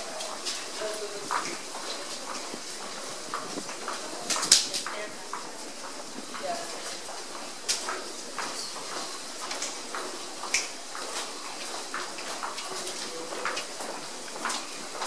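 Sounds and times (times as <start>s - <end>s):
footsteps on tiled floor: 0.0s - 15.0s.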